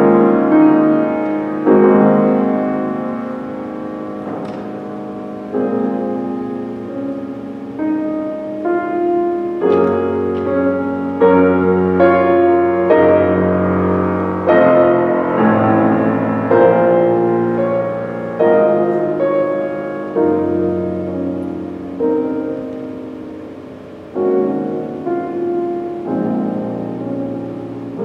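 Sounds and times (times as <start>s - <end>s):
grand piano playing slow piece: 0.0s - 28.0s.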